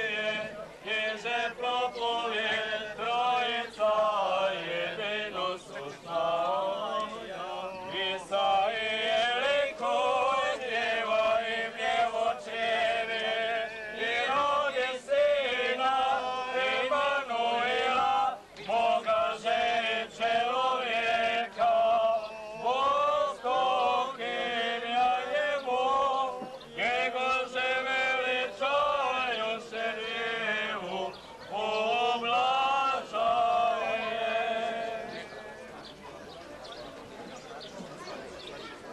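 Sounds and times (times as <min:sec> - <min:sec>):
men chanting a hymn: 0:00.0 - 0:36.2.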